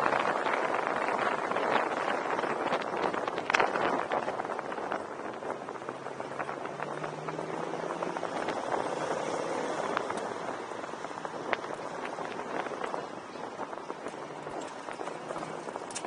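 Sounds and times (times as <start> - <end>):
low engine hum: 0.0 - 16.0
wind rushing over microphone: 0.0 - 16.0.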